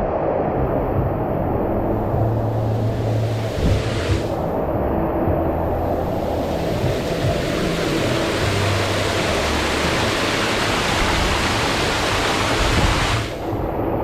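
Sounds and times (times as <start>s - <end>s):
low rumble: 0.0s - 14.0s
heavy rain hissing: 1.7s - 13.6s.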